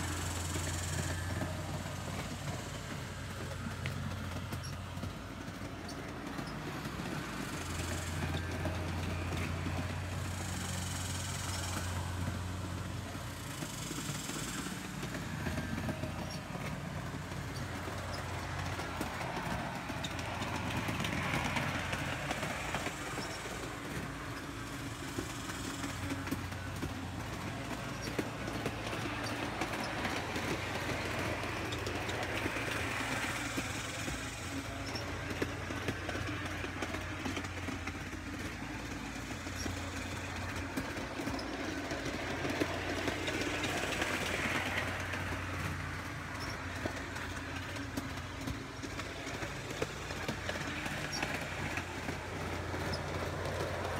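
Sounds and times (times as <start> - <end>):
train wheels rattling on rails: 0.0 - 53.9.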